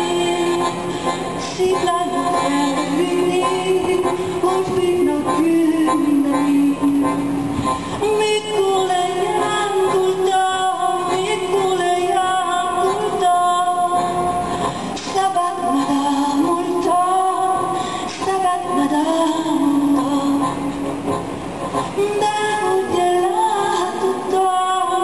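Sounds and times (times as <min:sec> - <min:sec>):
woman singing: 0:00.0 - 0:20.9, 0:22.0 - 0:25.0
button accordion playing: 0:00.0 - 0:24.1.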